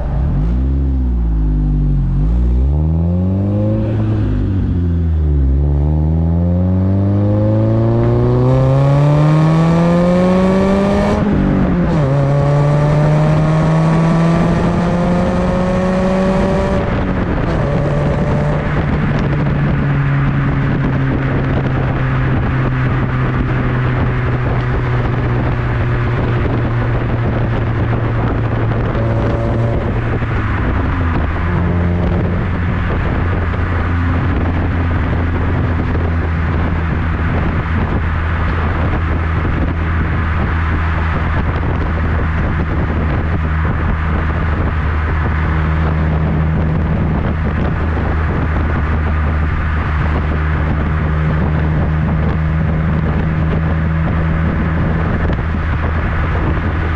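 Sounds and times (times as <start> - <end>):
car exhaust drone while driving: 0.0 - 56.9.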